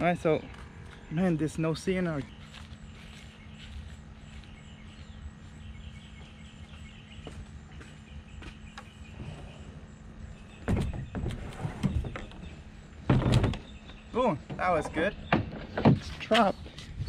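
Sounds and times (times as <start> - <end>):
faint bird chirping: 0.0 - 17.0
low steady hum: 0.0 - 17.0.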